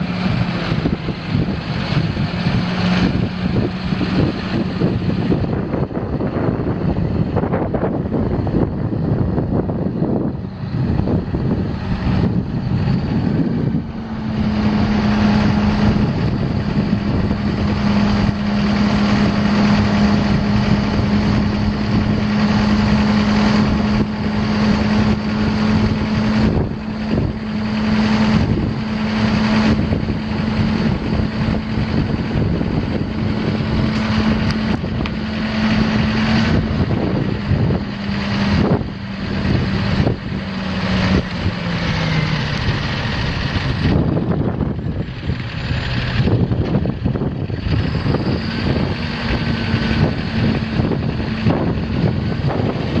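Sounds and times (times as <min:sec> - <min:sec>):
diesel truck engine running: 0:00.0 - 0:53.0
wind buffeting microphone: 0:00.0 - 0:53.0.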